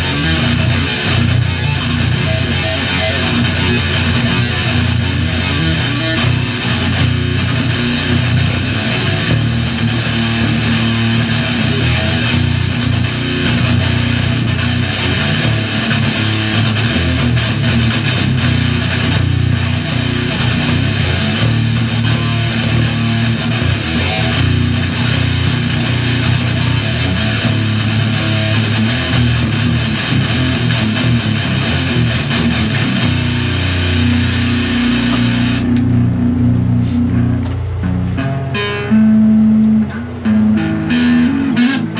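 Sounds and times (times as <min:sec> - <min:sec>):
electric bass guitar: 0:00.0 - 0:41.9
electric guitar: 0:00.0 - 0:41.9.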